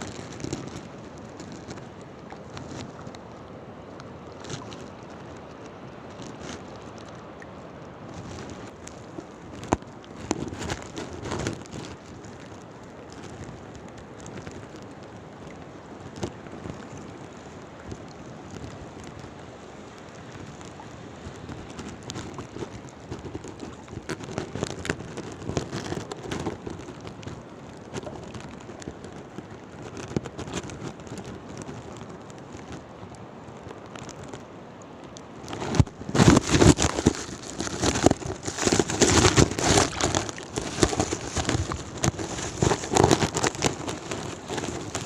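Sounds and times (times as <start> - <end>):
shallow water splashing: 0.0 - 45.0.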